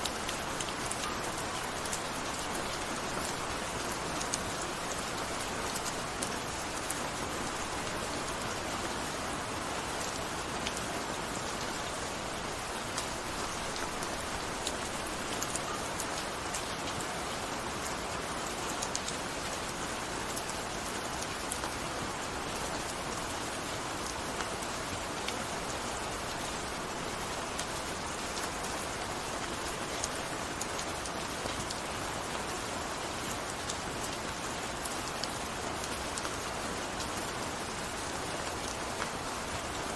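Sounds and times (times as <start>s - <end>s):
gentle rain hiss: 0.0s - 39.9s.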